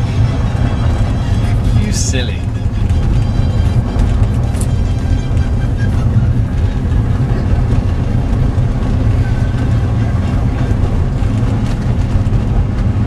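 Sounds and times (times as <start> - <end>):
car driving rumble inside cabin: 0.0 - 13.0.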